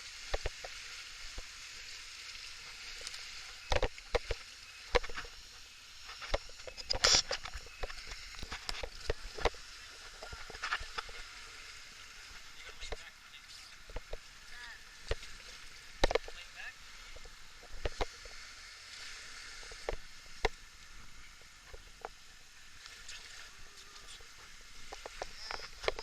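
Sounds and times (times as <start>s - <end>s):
water splashes: 0.0s - 26.0s.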